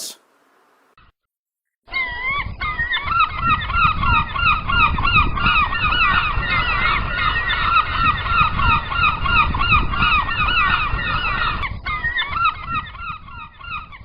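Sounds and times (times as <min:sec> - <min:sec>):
seagulls calling: 0:01.9 - 0:14.0.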